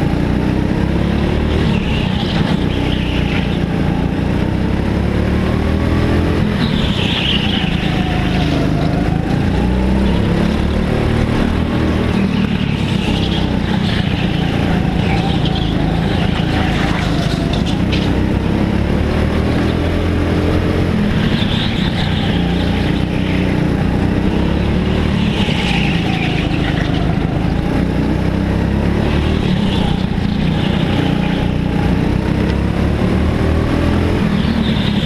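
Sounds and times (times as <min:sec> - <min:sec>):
go-kart engines racing: 0:00.0 - 0:35.0.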